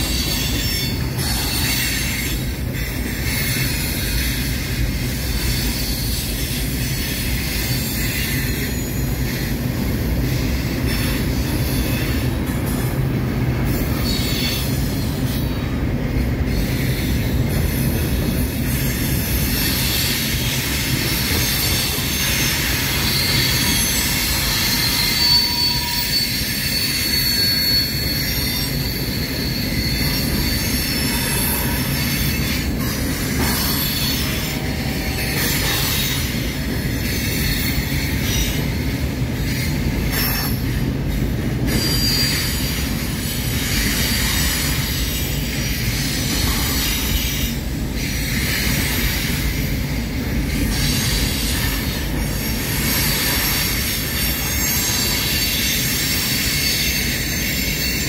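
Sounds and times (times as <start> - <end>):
high wheel squeal: 0.0 - 12.9, 13.6 - 15.8, 16.4 - 58.0
freight train wheels rumbling: 0.0 - 58.0.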